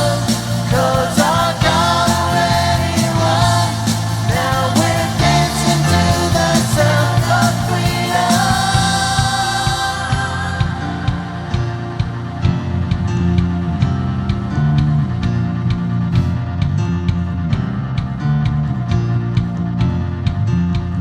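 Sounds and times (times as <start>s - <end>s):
band playing worship song: 0.0s - 20.9s.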